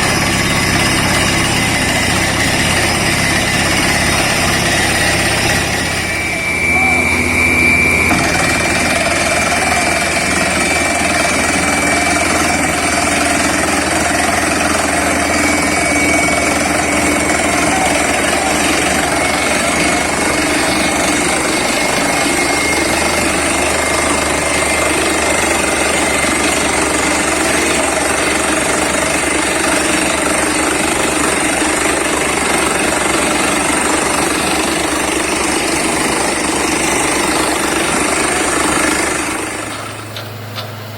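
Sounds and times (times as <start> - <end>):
air hammer pounding rapidly: 0.0 - 40.2
rig engine and air compressor: 0.0 - 40.9.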